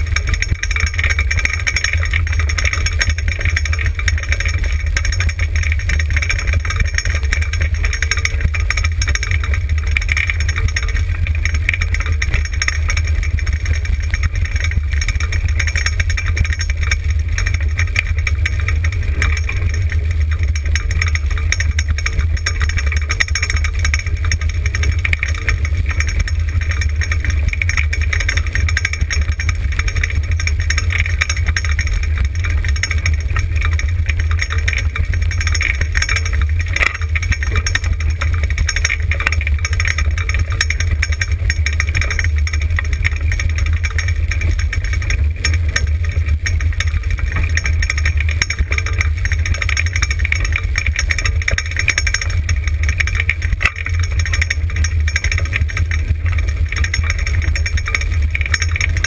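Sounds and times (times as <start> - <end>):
sled rig wheels rumbling on dirt: 0.0 - 59.0.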